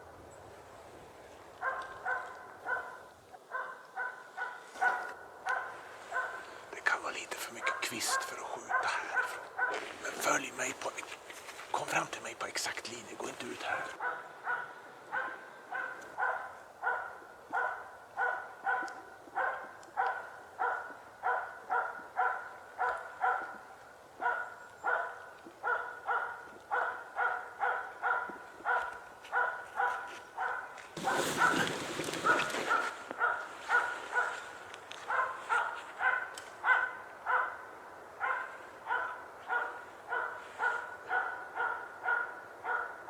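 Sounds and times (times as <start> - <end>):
dog barking: 1.6 - 6.6, 7.4 - 10.5, 13.6 - 43.0.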